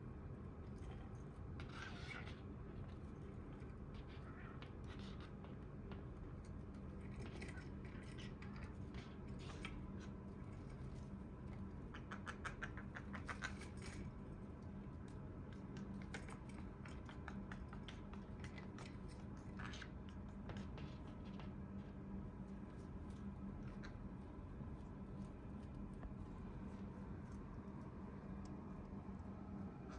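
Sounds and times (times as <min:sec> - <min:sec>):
parrot beak scratching rope: 0:00.6 - 0:29.9.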